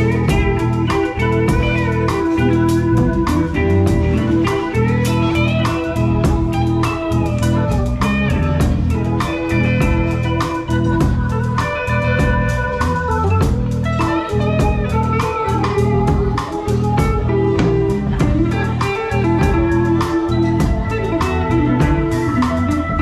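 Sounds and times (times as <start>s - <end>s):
drum kit beat: 0.0s - 23.0s
electric guitar: 0.0s - 23.0s.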